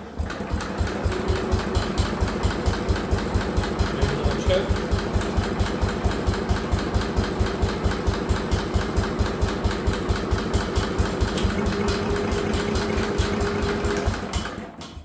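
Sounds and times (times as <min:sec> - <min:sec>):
tractor engine cranking: 0:00.0 - 0:15.0.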